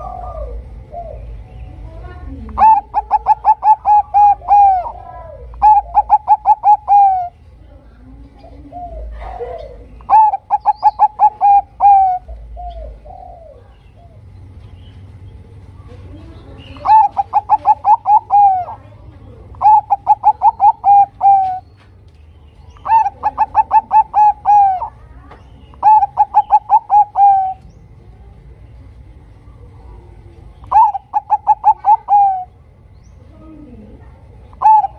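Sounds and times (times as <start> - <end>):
dove cooing: 0.0 - 14.3, 15.5 - 21.8, 22.6 - 27.8, 29.4 - 34.9.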